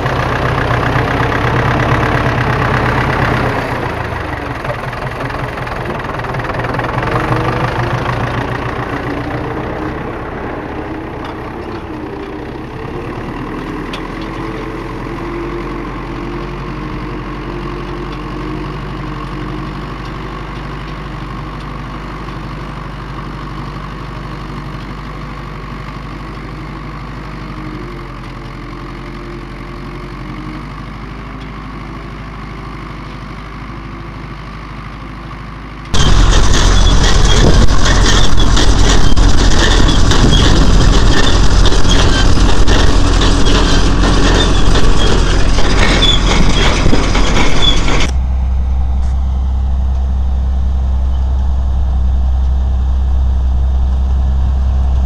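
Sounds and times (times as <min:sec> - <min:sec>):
potato harvester working: 0:00.0 - 0:55.0
tractor engine running: 0:00.0 - 0:55.0
tractor passing close: 0:00.0 - 0:55.0.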